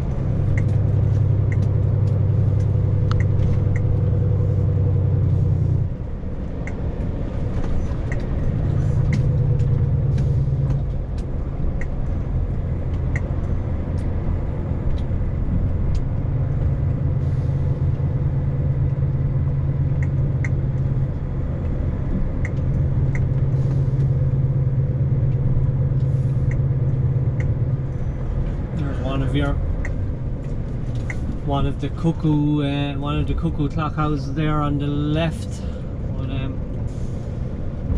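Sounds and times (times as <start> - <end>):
vehicle engine and road noise: 0.0 - 37.9.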